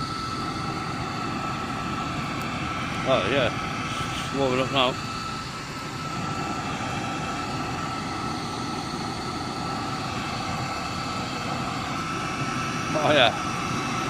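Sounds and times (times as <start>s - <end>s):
hairdryer blowing into stove burner: 0.0s - 14.0s.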